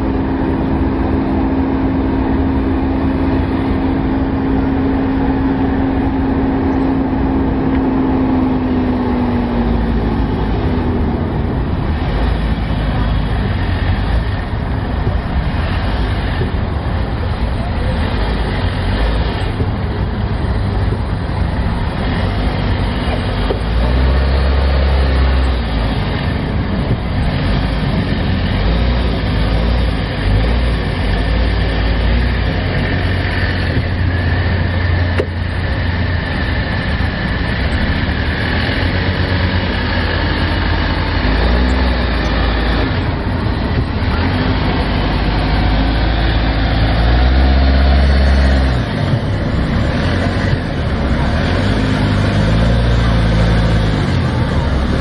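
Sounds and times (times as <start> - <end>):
car engine at low revs: 0.0 - 55.0.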